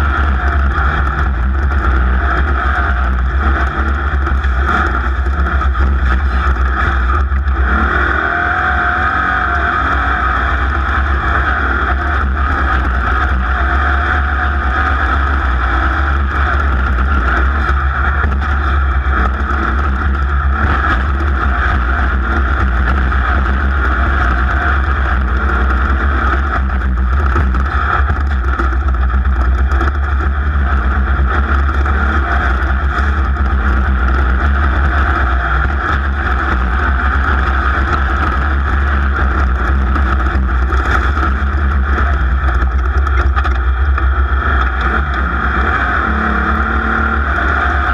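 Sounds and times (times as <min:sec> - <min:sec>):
racing engine running hard: 0:00.0 - 0:47.9
wind rumble on microphone: 0:00.0 - 0:47.9.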